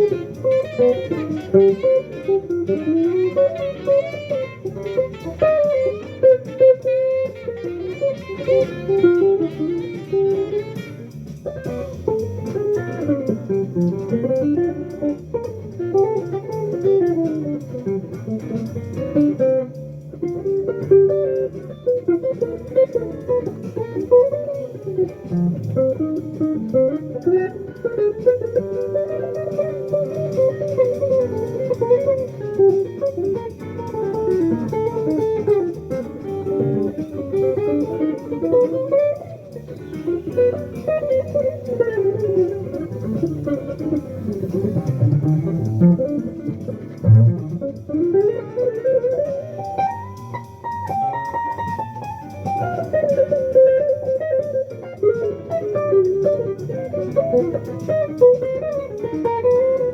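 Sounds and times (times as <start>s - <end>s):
jazz guitar playing: 0.0s - 59.9s.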